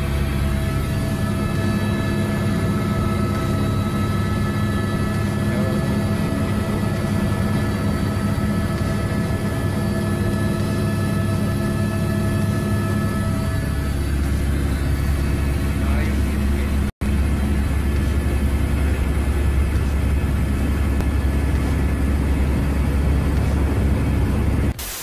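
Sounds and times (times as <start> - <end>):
aircraft cabin engine drone: 0.0 - 25.0.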